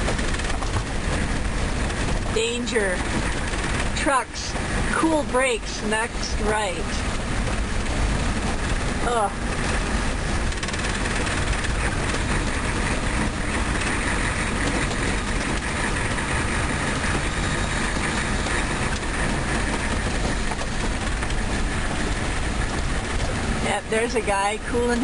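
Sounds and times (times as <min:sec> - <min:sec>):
car road and engine noise: 0:00.0 - 0:25.0.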